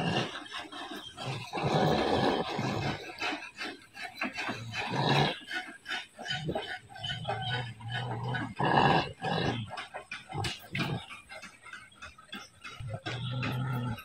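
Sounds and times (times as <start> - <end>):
dogs making low vocal noises: 0.0 - 14.0.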